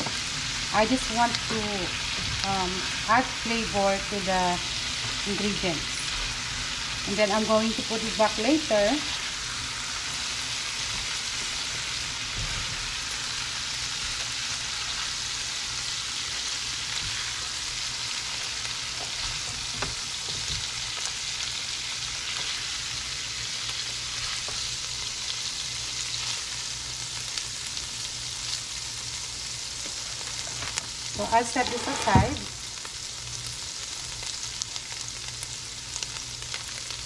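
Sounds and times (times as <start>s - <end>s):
food sizzling in oil: 0.0s - 37.0s.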